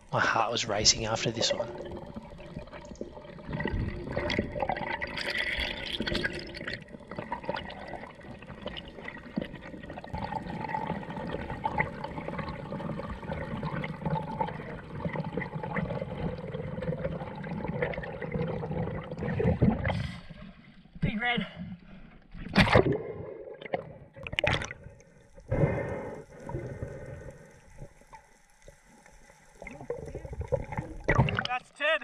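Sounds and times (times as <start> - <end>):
water rushing and bubbling: 0.0 - 20.9, 22.3 - 31.7.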